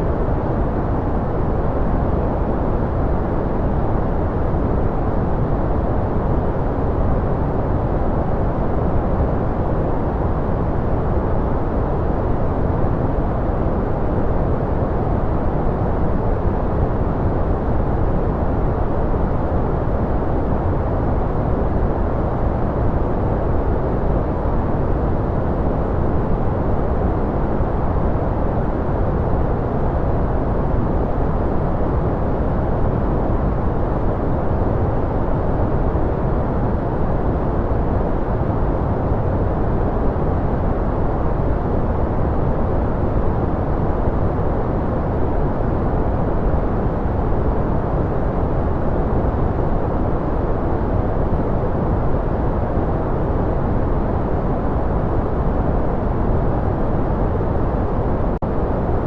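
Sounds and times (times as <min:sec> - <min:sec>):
muffled white noise hiss: 0:00.0 - 0:59.0.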